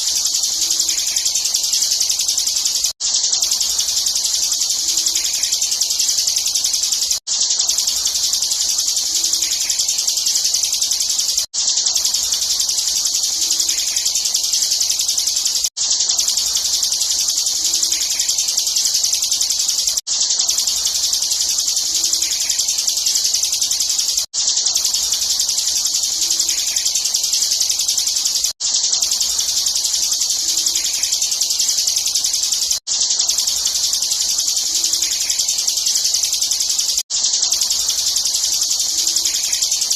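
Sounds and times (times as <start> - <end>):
bird singing high buzzing trill: 0.0 - 39.9.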